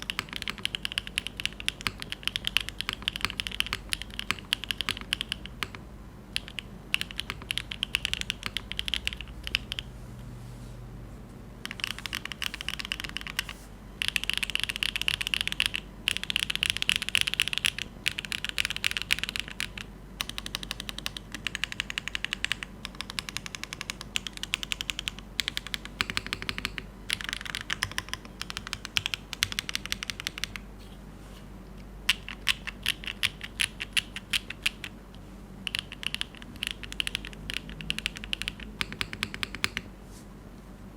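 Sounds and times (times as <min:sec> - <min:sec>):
mechanical keyboard typing: 0:00.0 - 0:09.9, 0:11.6 - 0:30.7, 0:32.1 - 0:35.0, 0:35.6 - 0:39.9.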